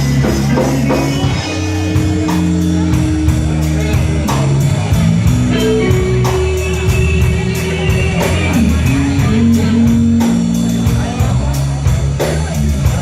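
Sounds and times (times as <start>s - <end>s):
electric guitar with bends: 0.0s - 12.5s
bass guitar: 0.0s - 13.0s
drums: 0.0s - 13.0s.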